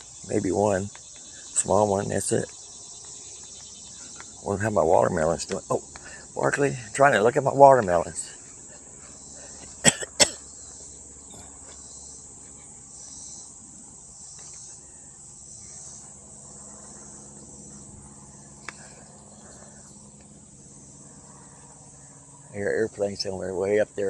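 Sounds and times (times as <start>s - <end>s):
distant airplane drone: 0.0s - 24.0s
insect chorus: 0.0s - 24.0s.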